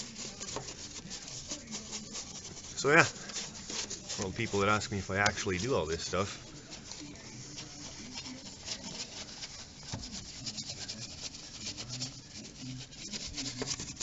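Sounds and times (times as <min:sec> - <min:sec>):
brush scrubbing car parts: 0:00.0 - 0:14.0.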